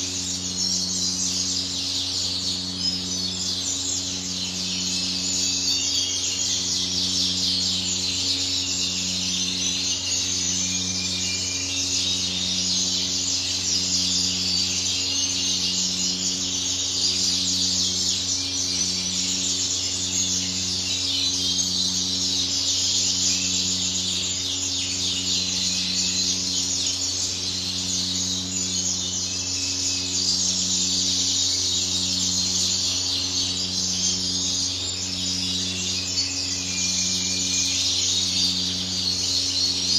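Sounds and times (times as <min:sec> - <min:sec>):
caged birds chirping: 0:00.0 - 0:39.9
low pulsing buzz: 0:00.0 - 0:39.9
mains hum: 0:00.0 - 0:39.9.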